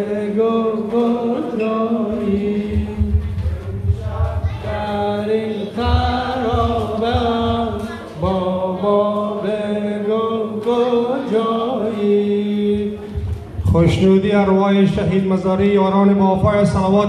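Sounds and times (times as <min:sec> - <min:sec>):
voices singing slow lament: 0:00.0 - 0:14.0.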